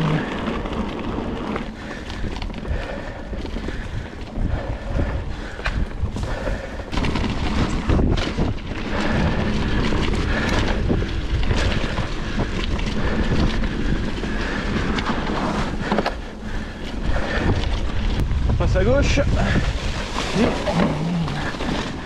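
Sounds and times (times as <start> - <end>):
bike rattling and knocking: 0.0 - 22.0
bike tyres over dry leaves: 0.0 - 22.0
wind noise on microphone: 0.0 - 22.0.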